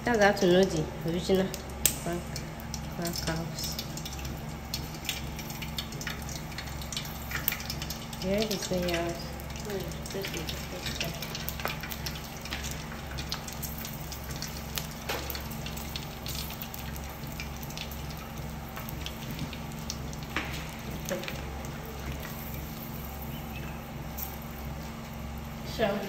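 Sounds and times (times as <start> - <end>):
oil sizzling in a pan: 0.0 - 26.0
steady low hum: 0.0 - 26.0
small crackles: 1.4 - 25.6.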